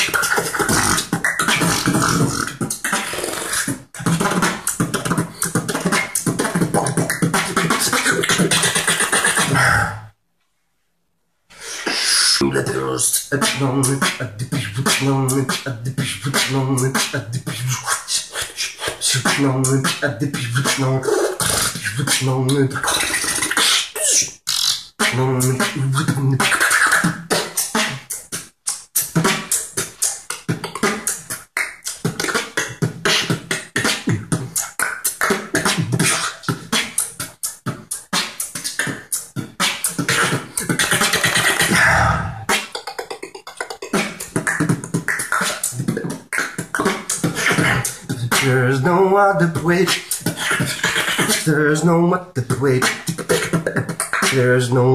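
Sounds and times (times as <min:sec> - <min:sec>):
human beatboxing: 0:00.0 - 0:10.1, 0:11.6 - 0:54.9.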